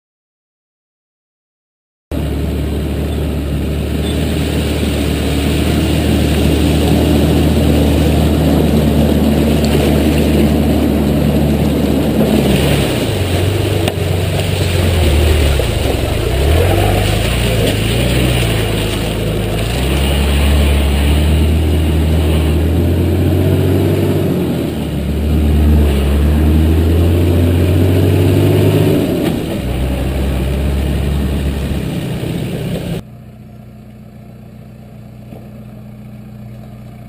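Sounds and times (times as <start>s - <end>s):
off-road vehicle engine under load: 2.1s - 37.0s.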